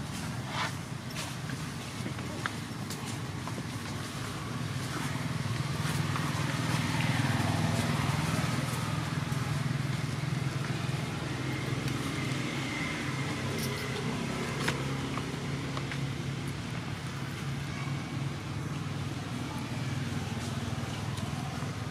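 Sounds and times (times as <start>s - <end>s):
engine humming: 0.0s - 21.9s.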